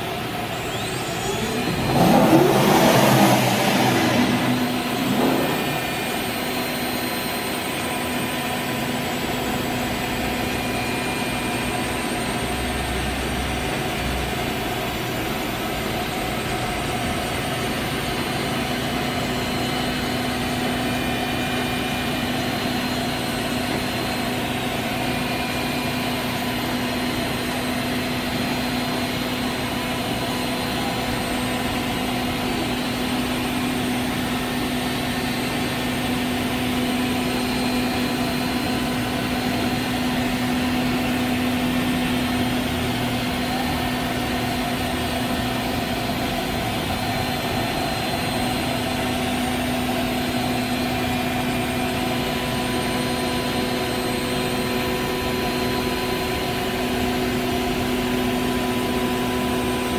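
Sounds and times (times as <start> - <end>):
cnc router machine drone: 0.0 - 59.9
steady whining tones: 0.0 - 59.9.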